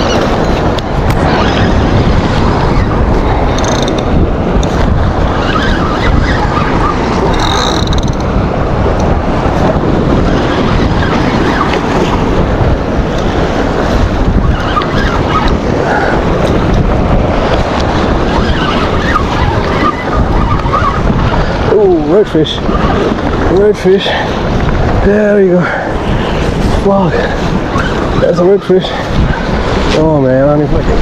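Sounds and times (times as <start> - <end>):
waves washing against rocks: 0.0 - 31.0
wind buffeting microphone: 0.0 - 31.0.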